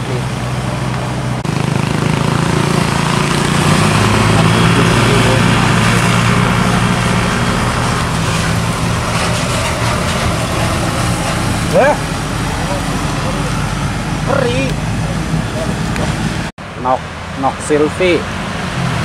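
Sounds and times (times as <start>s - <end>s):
diesel truck engine driving past: 0.0s - 19.0s
truck moving away: 0.0s - 19.0s
tyre and road noise: 0.0s - 19.0s.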